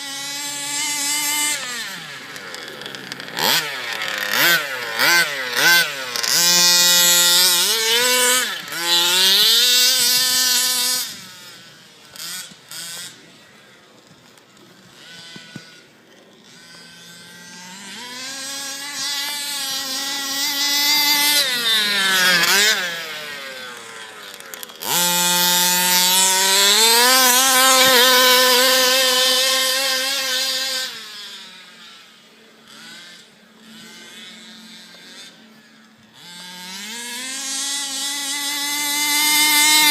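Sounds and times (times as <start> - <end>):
small two-stroke engine revving: 0.0 - 39.9.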